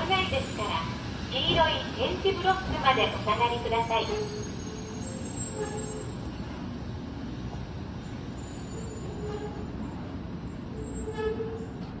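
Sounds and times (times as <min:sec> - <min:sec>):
train humming at platform: 0:00.0 - 0:12.0.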